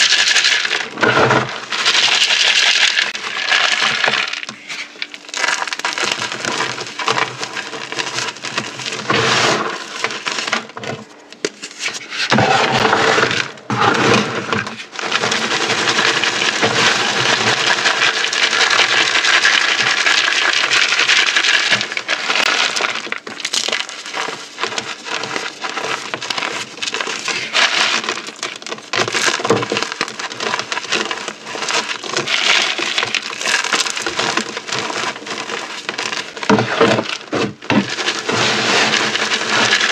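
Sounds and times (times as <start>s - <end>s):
beads and chalk crunching: 0.0s - 39.9s.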